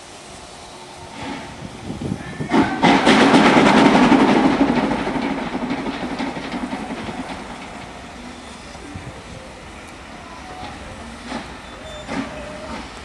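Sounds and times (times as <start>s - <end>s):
steam hissing: 0.0s - 13.0s
wheels clattering on track: 1.2s - 13.0s.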